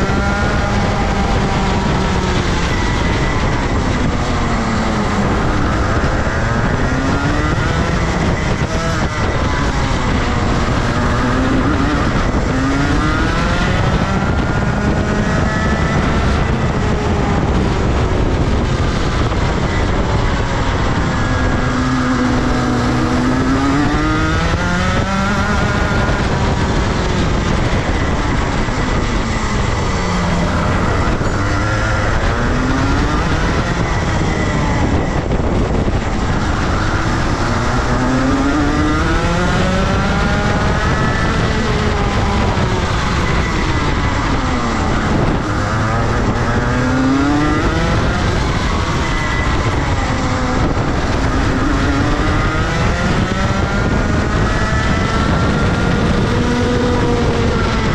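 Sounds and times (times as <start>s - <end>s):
kart engine running hard: 0.0s - 57.9s.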